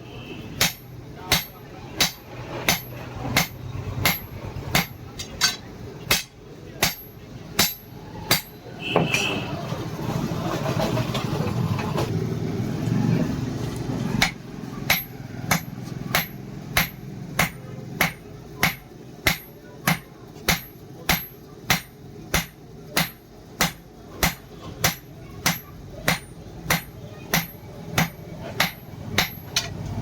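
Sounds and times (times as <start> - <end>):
hammer striking steel on anvil: 0.5 - 9.4, 14.2 - 29.8.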